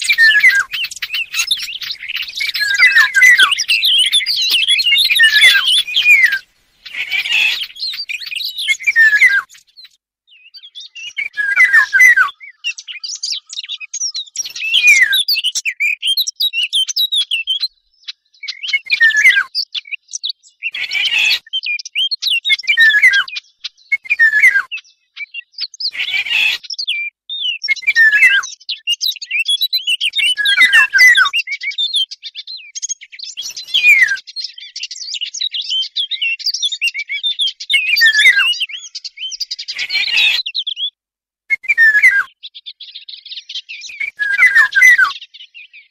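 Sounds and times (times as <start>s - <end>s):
birds twittering and whistling: 0.0s - 45.9s.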